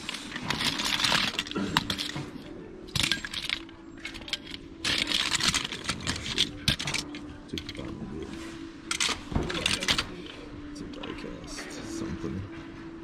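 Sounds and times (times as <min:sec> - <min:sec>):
plastic toys clattering: 0:00.0 - 0:11.2.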